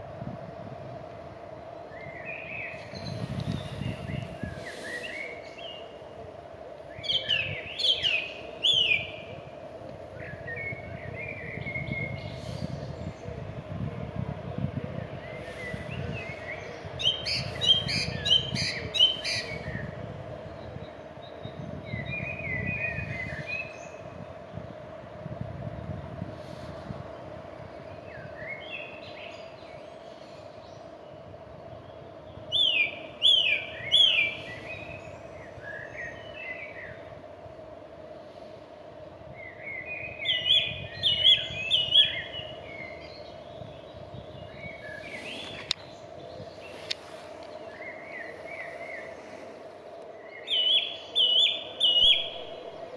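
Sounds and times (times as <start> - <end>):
steady low rumble: 0.0 - 52.9
songbird singing: 1.1 - 25.2, 25.8 - 52.9.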